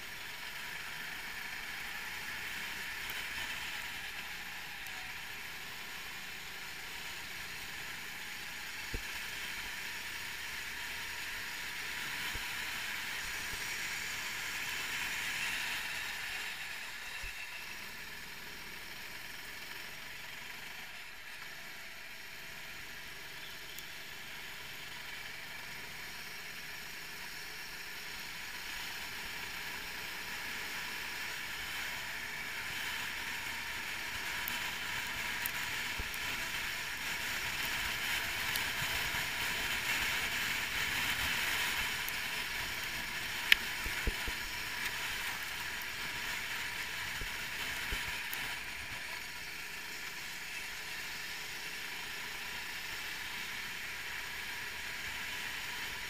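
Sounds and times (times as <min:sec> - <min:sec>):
kart engine drone: 0:00.0 - 0:56.0.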